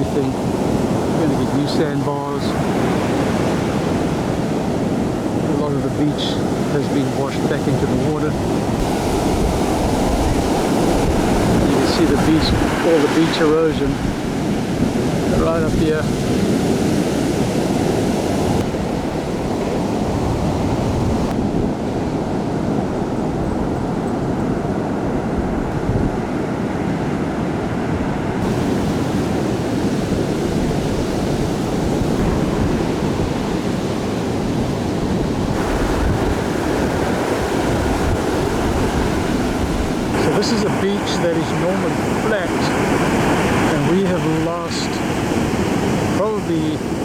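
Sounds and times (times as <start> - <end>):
surf breaking on beach: 0.0 - 23.6, 24.6 - 47.0
wind rumbling on microphone: 0.0 - 47.0.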